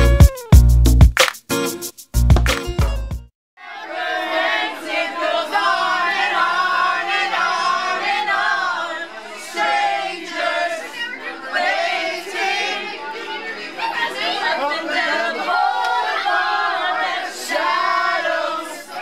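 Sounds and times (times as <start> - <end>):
group of people singing loudly: 3.6 - 19.0.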